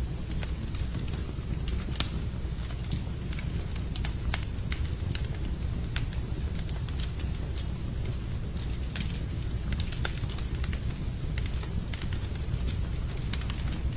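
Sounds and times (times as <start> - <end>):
fire crackling and popping: 0.0 - 13.9
flames rumbling in fireplace: 0.0 - 13.9.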